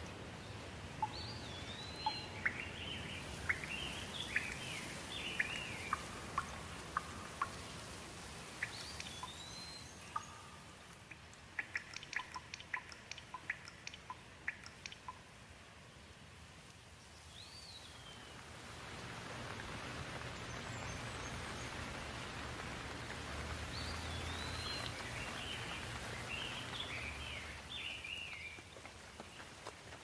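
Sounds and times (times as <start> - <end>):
birds chirping: 0.0 - 15.2, 20.0 - 29.6
rain falling: 0.0 - 30.0.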